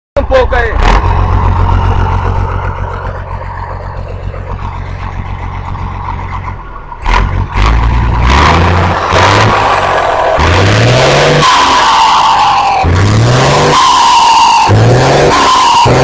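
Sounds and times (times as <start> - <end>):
vehicle engine idling and revving: 0.2 - 16.0.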